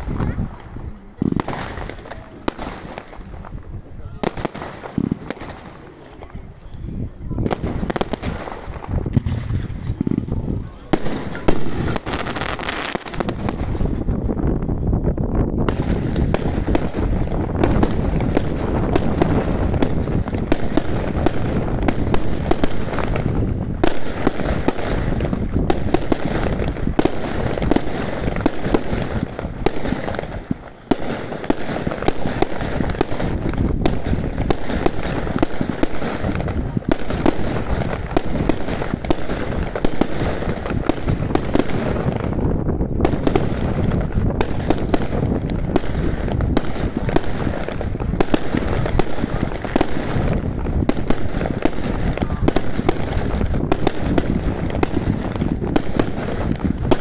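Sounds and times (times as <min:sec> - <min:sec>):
fireworks firing and bursting: 0:00.0 - 0:57.0.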